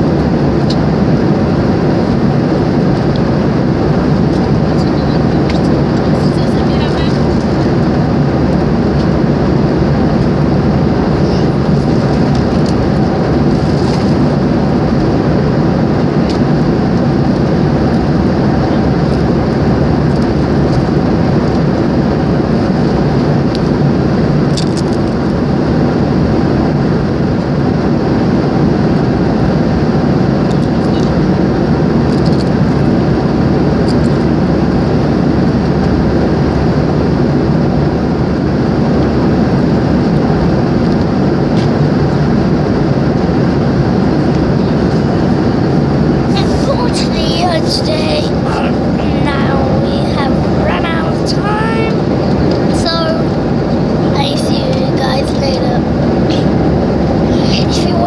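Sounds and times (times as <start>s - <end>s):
airliner cabin engine and air noise: 0.0s - 58.0s.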